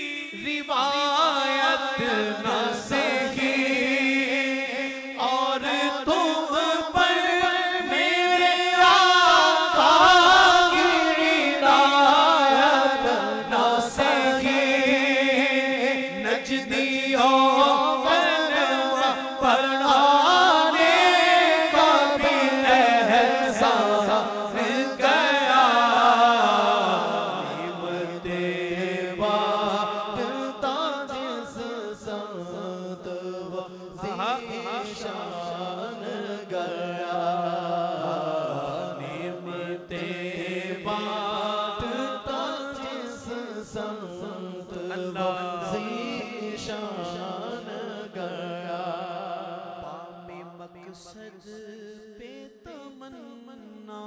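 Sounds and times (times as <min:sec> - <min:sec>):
man chanting over a microphone: 0:00.0 - 0:54.0.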